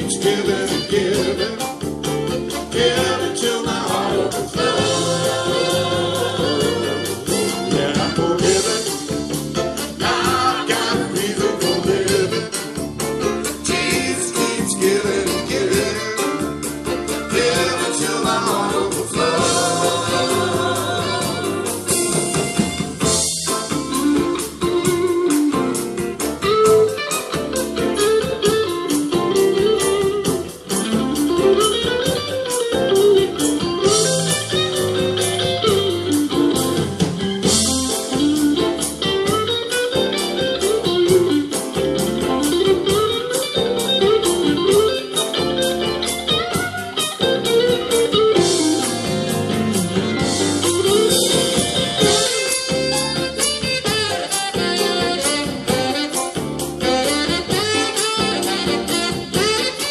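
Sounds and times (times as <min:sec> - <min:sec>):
electric guitar blues lead: 0:00.0 - 0:59.9
fast drum beat: 0:00.0 - 0:59.9.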